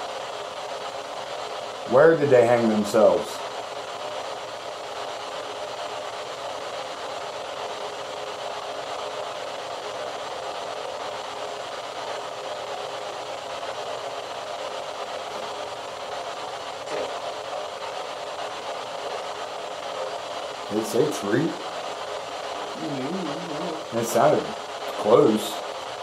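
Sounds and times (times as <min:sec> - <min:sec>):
static hiss: 0:00.0 - 0:26.0.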